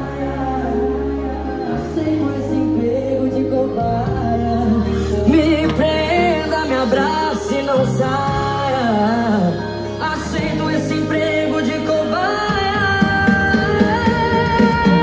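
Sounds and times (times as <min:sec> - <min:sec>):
loud music with deep bass: 0:00.0 - 0:15.0.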